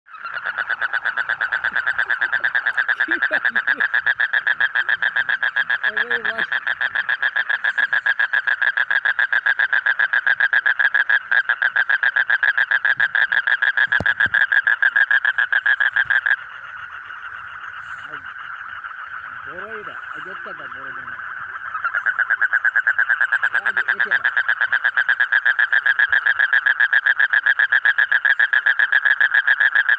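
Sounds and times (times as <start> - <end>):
frog trilling: 0.1 - 29.9.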